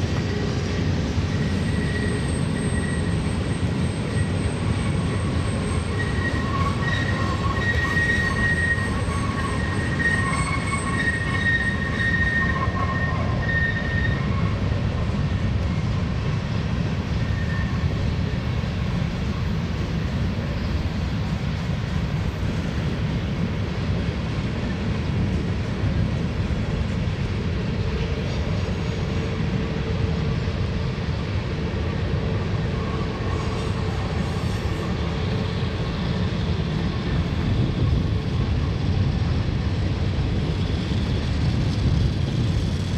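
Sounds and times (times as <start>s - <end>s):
freight train rumbling past: 0.0s - 42.9s
train wheels squealing: 0.0s - 42.9s.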